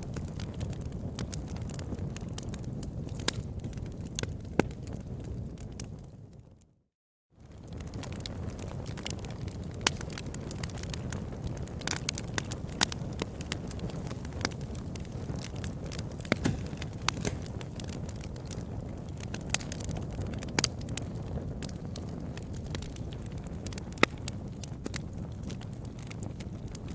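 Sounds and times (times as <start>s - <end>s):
low rush of flames: 0.0s - 6.3s, 7.4s - 26.9s
fire crackling and popping: 0.0s - 6.7s, 7.4s - 26.9s.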